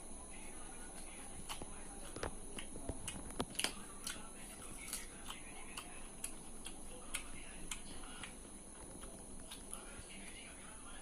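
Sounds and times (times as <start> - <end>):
mouth clicks and lip smacks chewing: 1.0 - 10.4.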